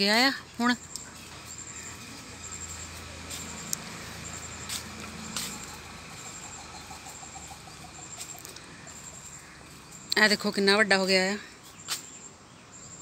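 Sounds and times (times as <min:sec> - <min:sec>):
low engine hum: 0:00.0 - 0:10.7.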